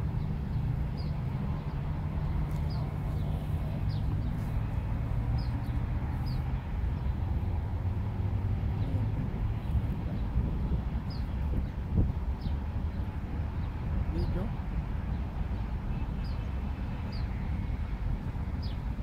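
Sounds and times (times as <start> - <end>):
small birds chirping: 0.0 - 7.6, 8.7 - 17.8, 18.5 - 19.0
low rumble of distant traffic: 0.0 - 19.0.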